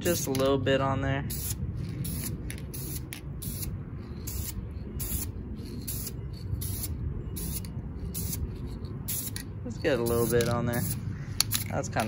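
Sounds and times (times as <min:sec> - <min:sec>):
low rumble: 0:00.0 - 0:12.0
spray paint can hissing: 0:01.3 - 0:12.0.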